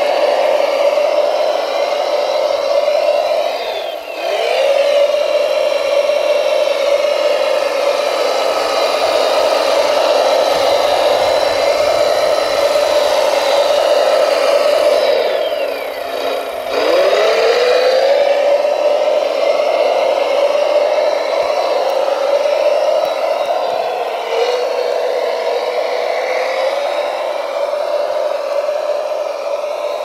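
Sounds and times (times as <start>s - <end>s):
electric motor whining: 0.0s - 30.0s.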